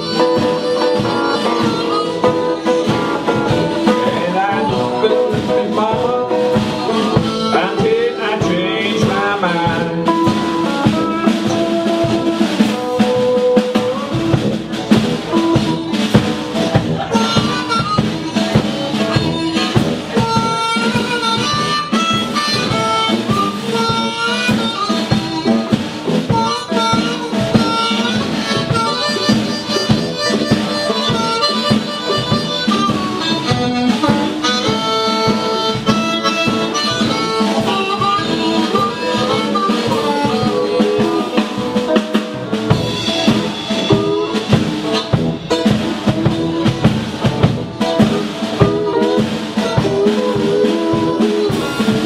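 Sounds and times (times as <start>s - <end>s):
acoustic and electric guitars: 0.0s - 52.0s
blues harmonica solo: 0.0s - 52.0s
drums: 0.0s - 52.0s
tuba: 0.0s - 52.0s.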